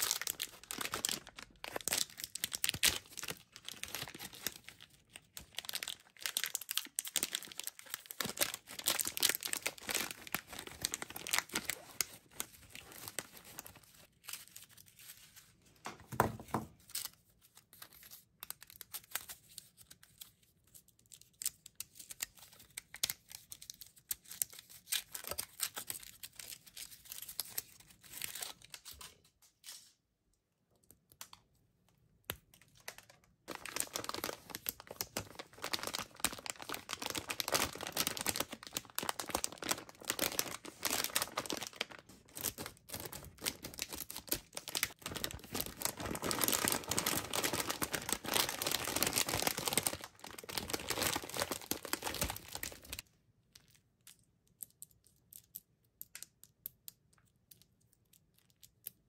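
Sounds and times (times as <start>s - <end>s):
candy wrappers crinkling and tearing: 0.0s - 29.8s, 32.3s - 59.0s.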